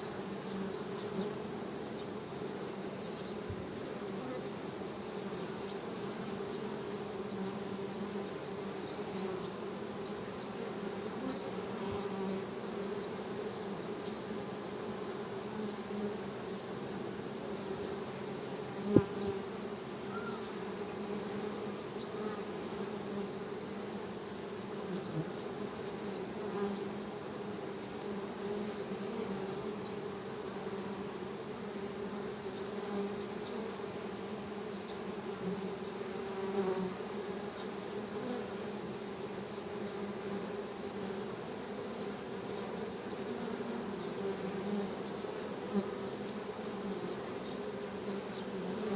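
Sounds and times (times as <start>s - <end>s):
honey bees buzzing: 0.1s - 48.9s.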